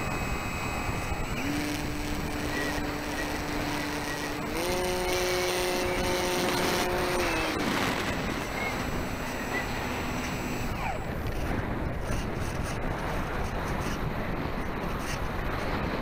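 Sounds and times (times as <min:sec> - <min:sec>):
model aircraft motor humming: 0:00.0 - 0:16.0
rushing wind: 0:00.0 - 0:16.0.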